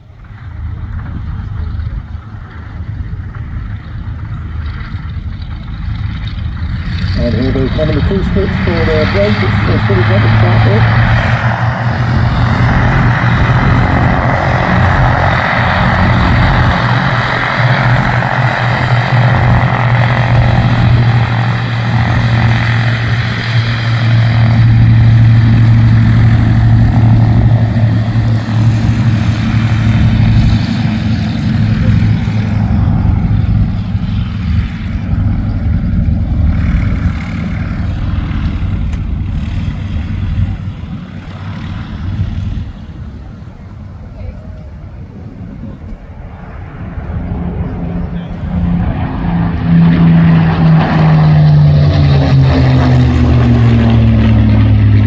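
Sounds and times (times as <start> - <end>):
propeller plane engines running: 0.0 - 55.0.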